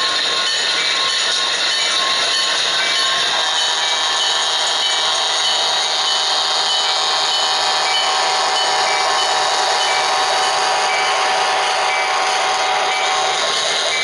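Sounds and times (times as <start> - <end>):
model train motors whirring: 0.0 - 14.0.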